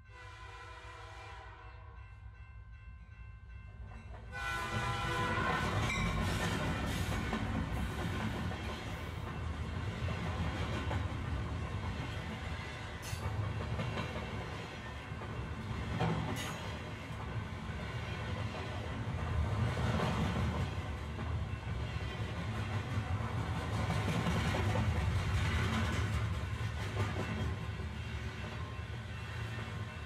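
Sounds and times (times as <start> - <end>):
train rolling on rails: 0.4 - 30.0.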